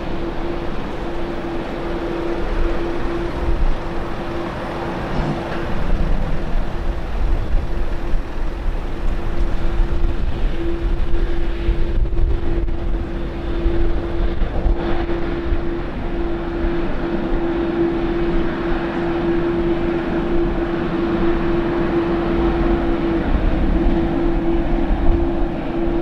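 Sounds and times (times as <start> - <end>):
jet engines droning: 0.0 - 26.0.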